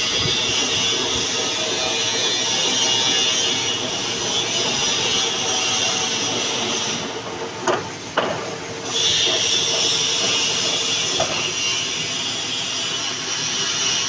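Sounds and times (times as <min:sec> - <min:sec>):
metal lathe whirring: 0:00.0 - 0:14.0.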